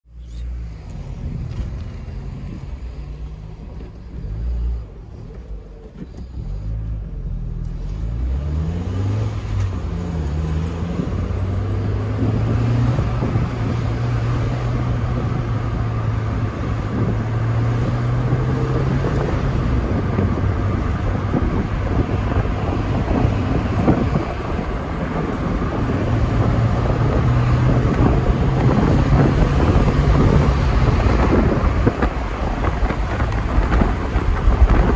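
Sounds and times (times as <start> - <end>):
wind noise: 0.6 - 7.8, 8.7 - 34.9
car engine revving: 0.6 - 34.9.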